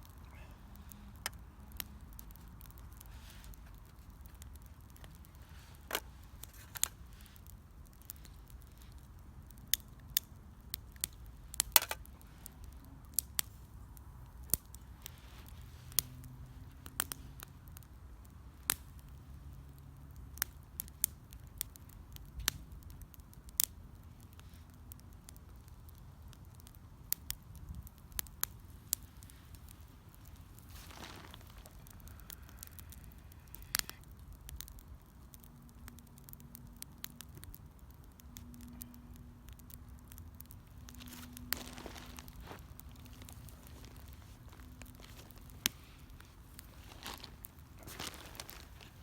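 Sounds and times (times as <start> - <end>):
faint low hiss: 0.0 - 49.0
wood fire crackling: 0.0 - 49.0.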